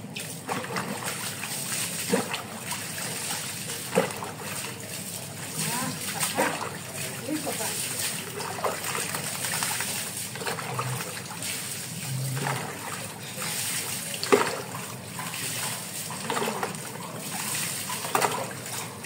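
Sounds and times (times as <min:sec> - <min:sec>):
water splashing and trickling: 0:00.0 - 0:19.0.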